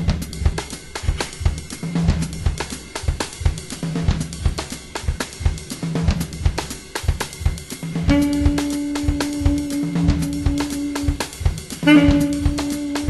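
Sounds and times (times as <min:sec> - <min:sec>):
house music drum beat: 0:00.0 - 0:13.0.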